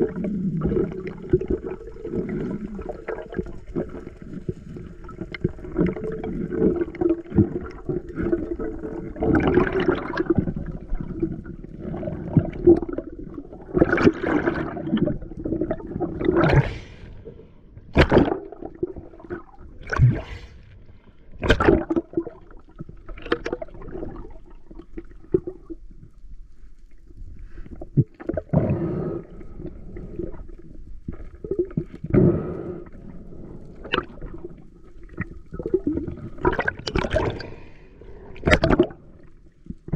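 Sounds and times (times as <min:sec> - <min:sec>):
seawater sloshing and gurgling: 0:00.0 - 0:25.8, 0:33.1 - 0:39.9.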